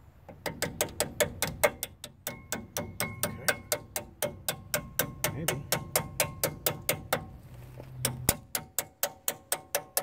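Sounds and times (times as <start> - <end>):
hammer tapping metal punch: 0.3 - 7.4, 8.0 - 10.0.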